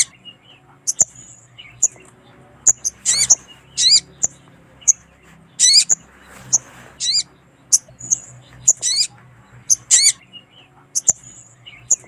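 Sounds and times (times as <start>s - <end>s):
bird warbling calls: 0.0s - 12.0s
bird sharp high chips: 0.9s - 10.2s, 11.0s - 12.0s.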